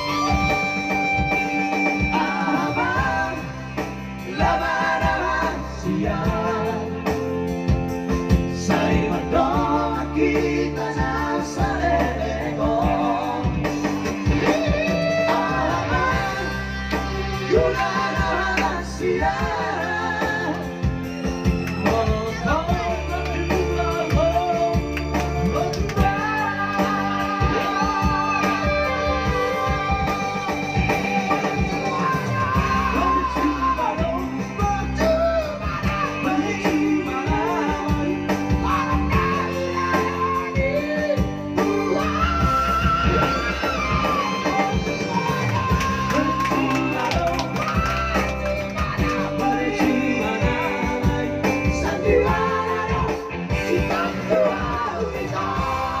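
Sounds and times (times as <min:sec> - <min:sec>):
pop song with band: 0:00.0 - 0:56.0.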